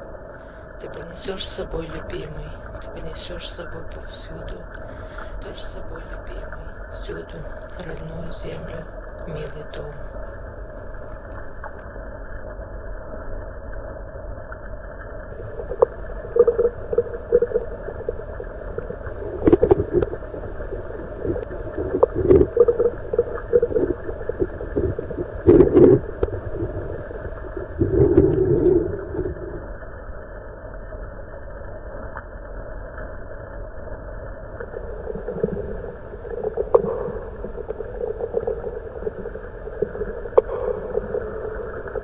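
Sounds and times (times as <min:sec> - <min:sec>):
low underwater rumble: 0:00.0 - 0:42.0.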